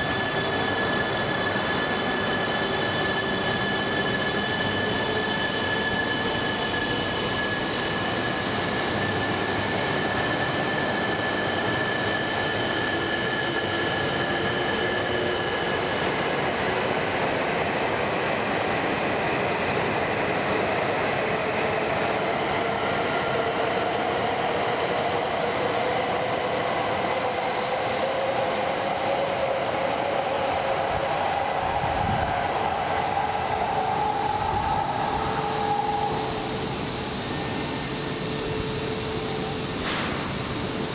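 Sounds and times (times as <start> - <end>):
train wheel and rail noise: 0.0 - 40.9
train whine rising in pitch: 0.0 - 40.9.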